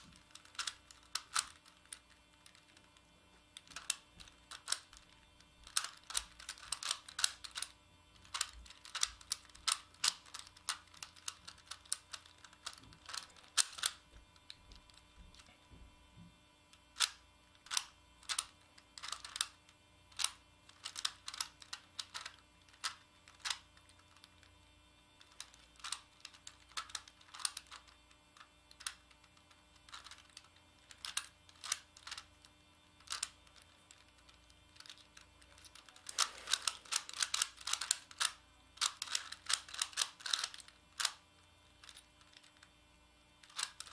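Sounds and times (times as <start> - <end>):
plastic puzzle clicking: 0.0 - 3.0, 3.6 - 15.5, 17.0 - 24.4, 25.2 - 32.3, 33.0 - 41.2, 41.8 - 42.7, 43.4 - 43.9.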